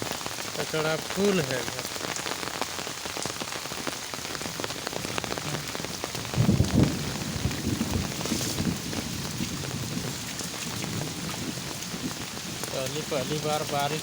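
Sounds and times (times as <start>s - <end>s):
heavy rain falling: 0.0s - 14.0s
raindrops ticking: 0.0s - 14.0s.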